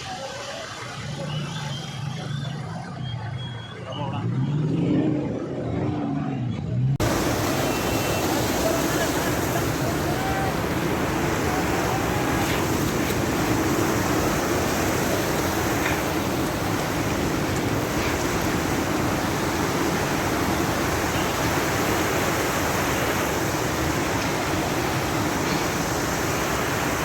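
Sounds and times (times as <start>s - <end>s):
waterfall roaring: 0.0s - 5.8s, 7.0s - 27.0s.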